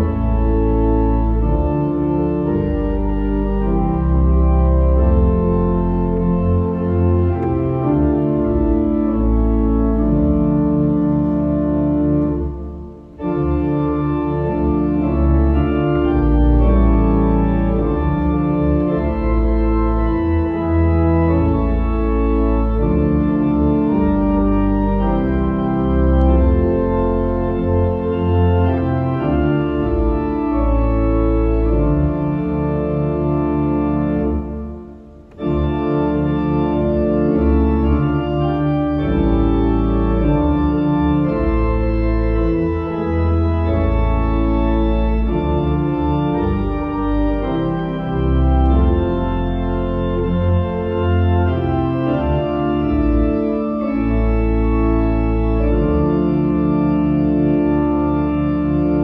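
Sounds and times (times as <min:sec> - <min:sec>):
pipe organ playing a hymn: 0:00.0 - 0:59.0.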